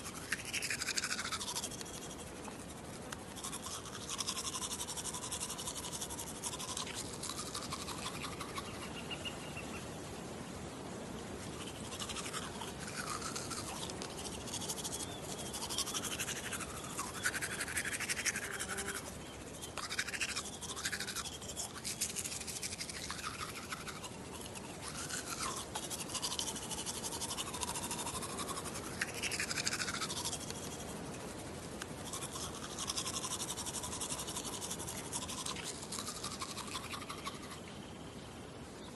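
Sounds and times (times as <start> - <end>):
toothbrush scrubbing teeth: 0.0 - 8.9, 11.5 - 37.6.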